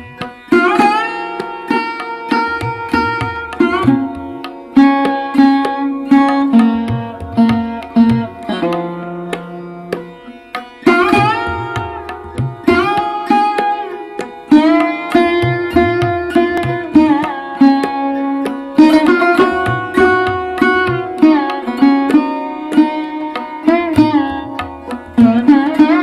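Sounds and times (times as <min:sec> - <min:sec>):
sitar playing: 0:00.0 - 0:26.0
tabla rhythm: 0:00.0 - 0:26.0.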